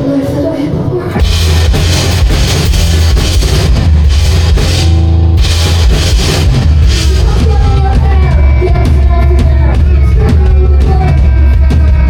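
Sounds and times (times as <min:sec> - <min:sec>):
bass guitar: 0:01.2 - 0:12.0
drum kit: 0:01.2 - 0:12.0
electric guitar: 0:01.2 - 0:12.0.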